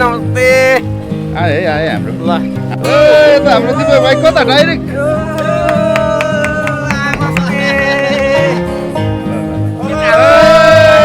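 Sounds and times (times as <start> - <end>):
plucked strings music: 0.0 - 11.0.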